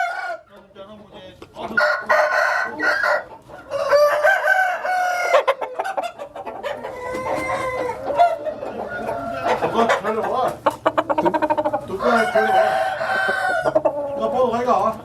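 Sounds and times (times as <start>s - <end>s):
roosters crowing: 0.0s - 0.5s, 1.7s - 14.8s
chickens clucking: 0.0s - 15.0s.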